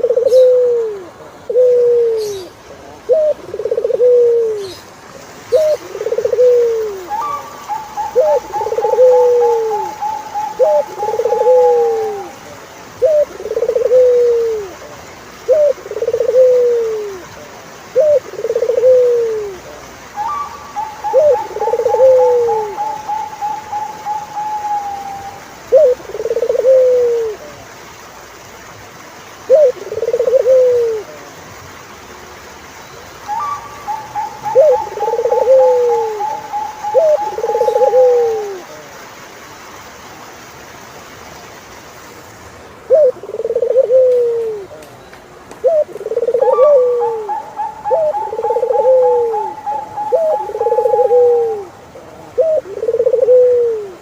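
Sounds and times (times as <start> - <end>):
doves cooing: 0.0 - 27.6, 29.5 - 31.4, 33.3 - 38.9, 42.8 - 44.9, 45.6 - 54.0.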